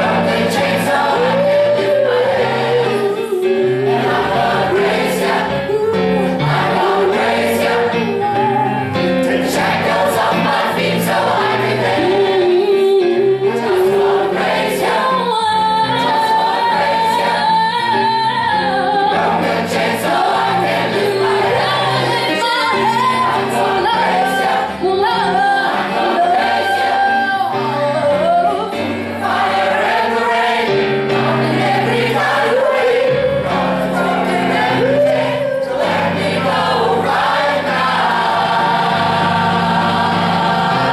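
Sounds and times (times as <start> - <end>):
choir singing gospel: 0.0 - 40.9.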